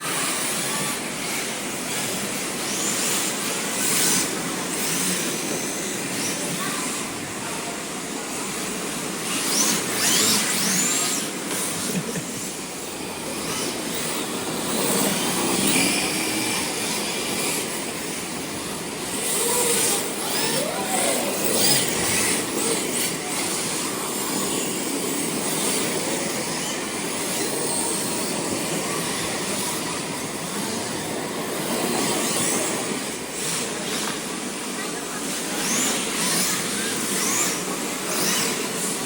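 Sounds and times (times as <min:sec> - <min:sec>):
electric motors whining: 0:00.0 - 0:39.0.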